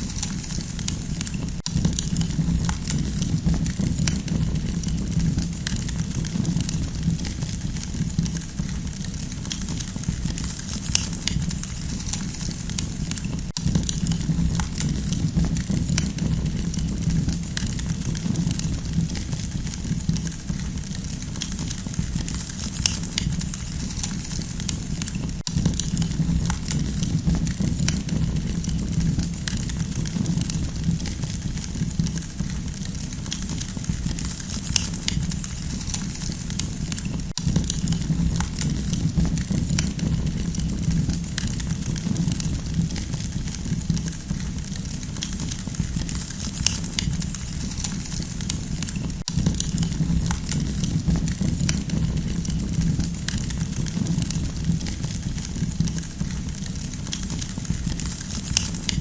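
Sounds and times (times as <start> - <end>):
campfire crackling and popping: 0.0 - 59.0
fire low rumble: 0.0 - 59.0.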